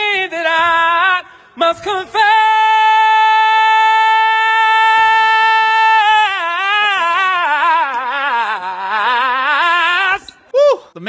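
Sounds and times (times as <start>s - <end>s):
man singing a cappella: 0.0s - 10.8s.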